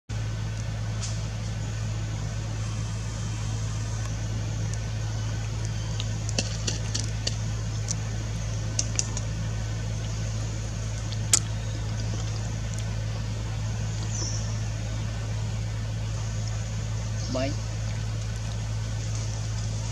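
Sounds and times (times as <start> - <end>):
low machine hum: 0.1 - 19.9.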